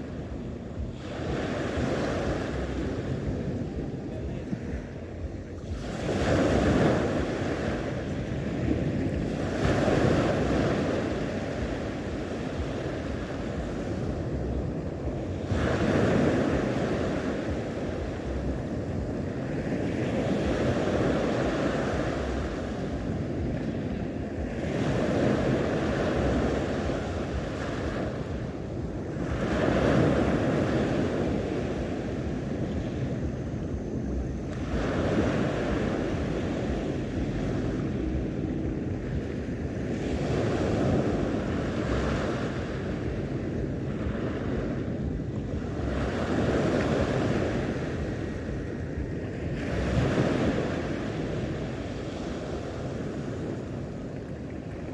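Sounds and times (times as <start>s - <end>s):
sea waves washing onto shore: 0.0s - 54.9s.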